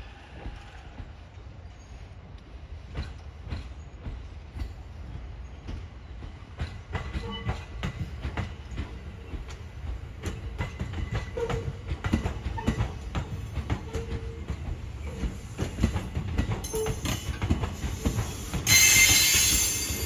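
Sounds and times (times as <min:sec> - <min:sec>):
low train rumble: 0:00.0 - 0:20.0
train wheels clacking: 0:02.4 - 0:20.0.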